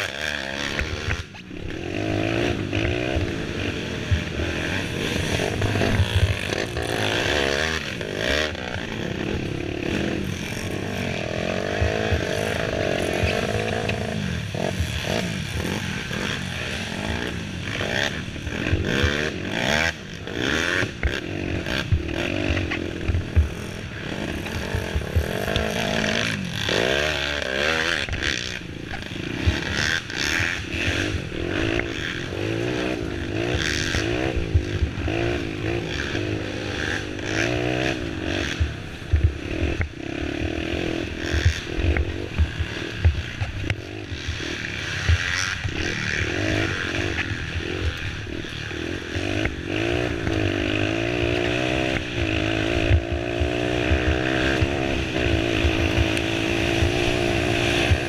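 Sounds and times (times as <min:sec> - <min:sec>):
knocks and clatter over rough trail: 0:00.0 - 0:58.0
quad engine revving: 0:00.0 - 0:58.0.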